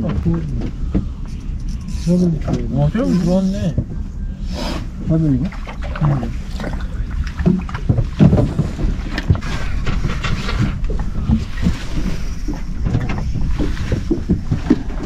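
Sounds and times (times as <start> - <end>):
gear knocking on boat: 0.0 - 4.2, 5.0 - 15.0
wind buffeting microphone: 0.0 - 15.0.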